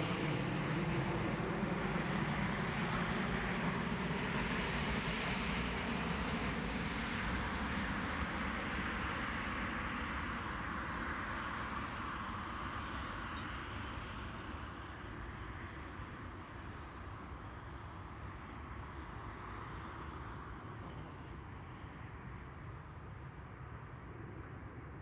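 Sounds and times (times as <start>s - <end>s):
jet engines at takeoff: 0.0s - 25.0s.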